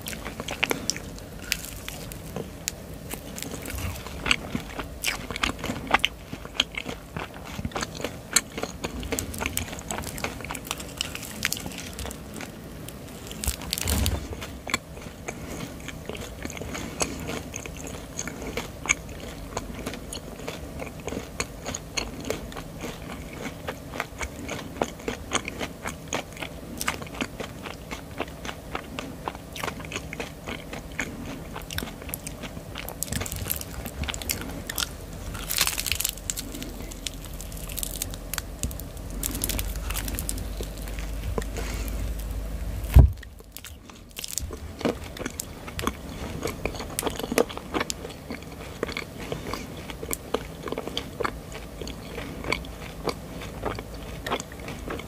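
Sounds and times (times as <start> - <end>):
chewing marshmallow mouth sounds: 0.0 - 55.0.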